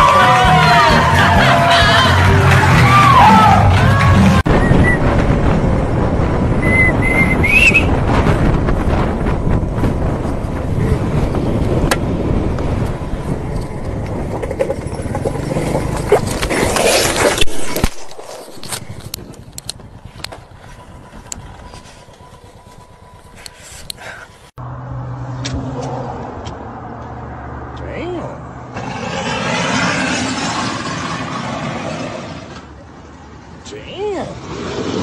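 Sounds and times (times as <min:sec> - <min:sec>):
wind and road rush: 0:00.0 - 0:35.0.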